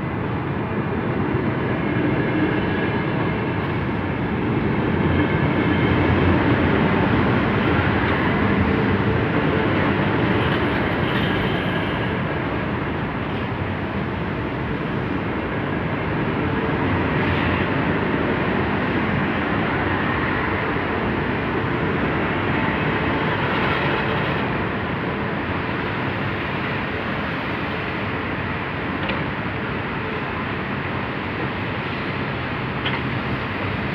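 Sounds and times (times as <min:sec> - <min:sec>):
electric train rumbling slowly: 0:00.0 - 0:33.9.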